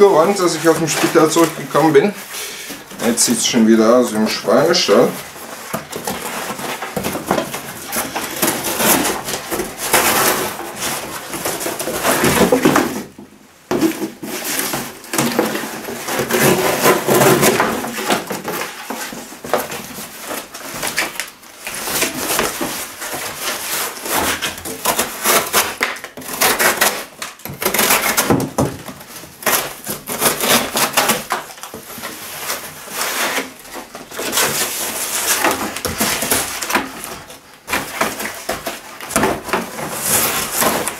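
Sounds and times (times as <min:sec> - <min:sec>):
knife sawing through cardboard: 0:00.0 - 0:13.0, 0:13.8 - 0:40.9
cardboard ripping: 0:00.0 - 0:40.9.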